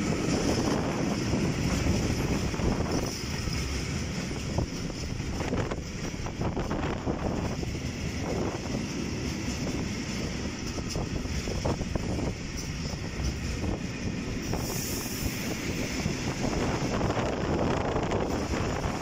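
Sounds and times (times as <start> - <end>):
freight train wheels rumbling: 0.0 - 19.0
train knocks: 0.0 - 19.0
wind buffeting microphone: 0.0 - 19.0.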